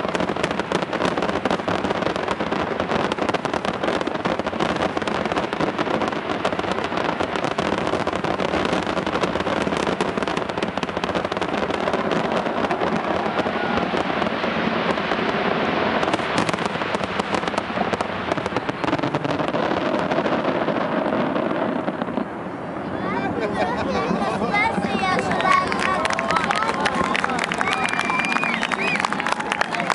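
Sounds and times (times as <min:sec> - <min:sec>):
fireworks crackling: 0:00.0 - 0:29.9
sharp fireworks bangs: 0:00.0 - 0:29.9.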